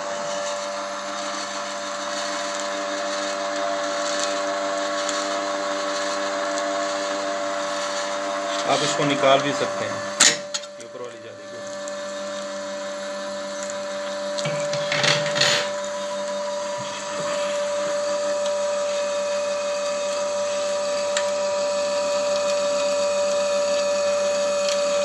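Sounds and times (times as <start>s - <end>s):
oil press motor whine: 0.0s - 25.0s.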